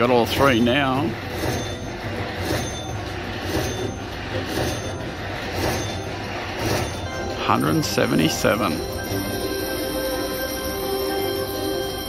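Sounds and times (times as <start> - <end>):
slot machine tally sound: 0.0 - 12.0.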